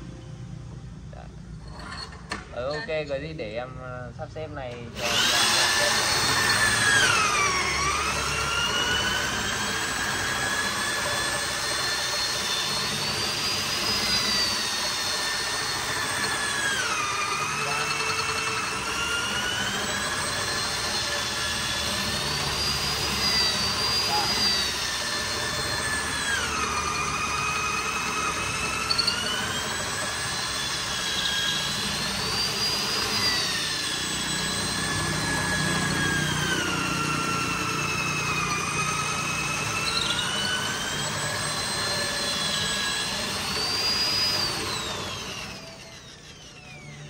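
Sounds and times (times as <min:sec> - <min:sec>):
drill winding down: 0:01.2 - 0:47.0
electric drill boring into wood: 0:01.6 - 0:47.0.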